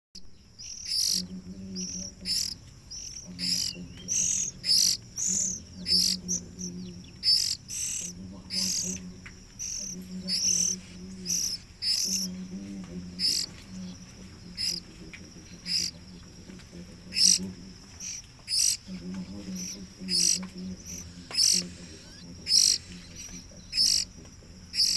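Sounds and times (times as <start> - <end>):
nestling birds begging chirps: 0.2 - 24.9.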